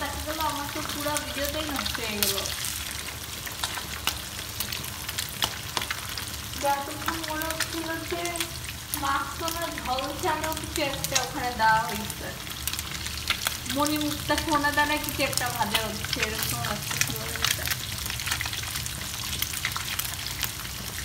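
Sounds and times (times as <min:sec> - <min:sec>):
fish frying in oil: 0:00.0 - 0:21.0.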